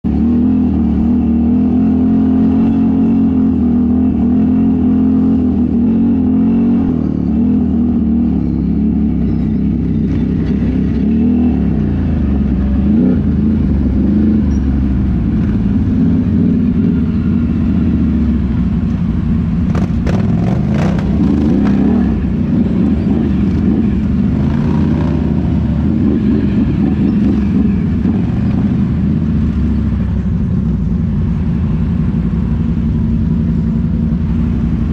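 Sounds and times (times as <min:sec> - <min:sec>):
vehicle engine revving: 0:00.1 - 0:34.9.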